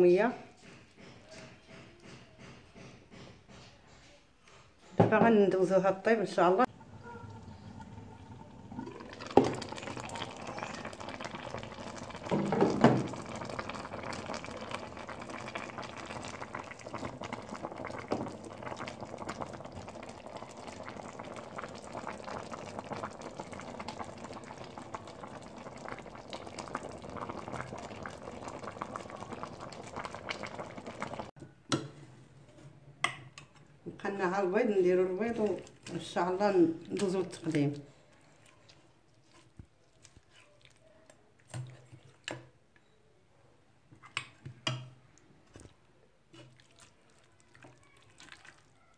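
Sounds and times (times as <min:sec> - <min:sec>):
food bubbling and crackling in pot: 0:06.6 - 0:31.9, 0:33.1 - 0:42.8, 0:43.9 - 0:48.9.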